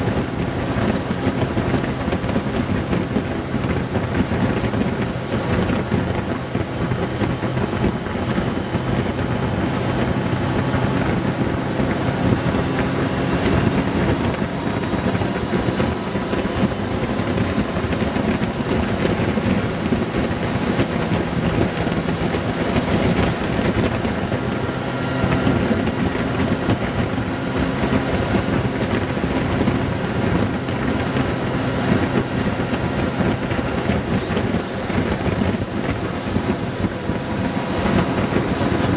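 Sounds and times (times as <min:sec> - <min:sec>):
motorcycle engine humming: 0:00.0 - 0:38.9
wind rushing over microphone: 0:00.0 - 0:38.9.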